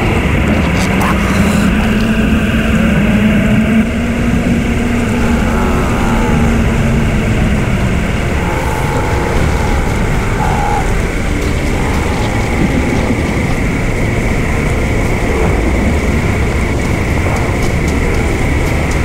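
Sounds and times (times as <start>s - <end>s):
low rumbling drone: 0.0s - 19.0s.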